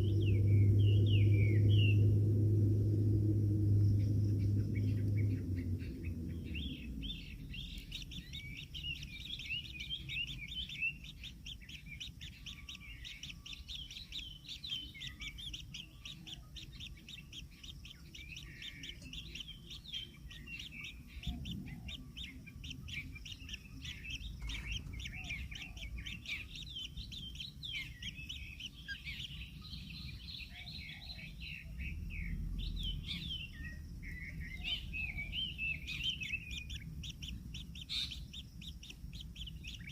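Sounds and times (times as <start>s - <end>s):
low rumble: 0.0s - 15.8s, 16.4s - 39.9s
chicks chirping rapidly: 4.0s - 39.9s.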